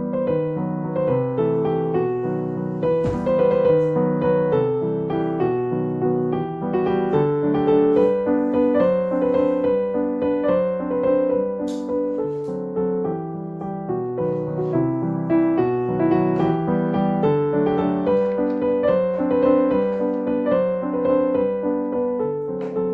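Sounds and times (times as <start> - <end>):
gentle piano music: 0.0 - 22.9.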